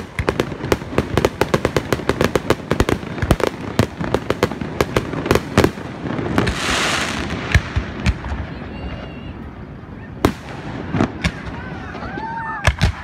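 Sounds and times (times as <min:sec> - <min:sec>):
fireworks bangs and pops: 0:00.0 - 0:09.1, 0:10.2 - 0:13.0.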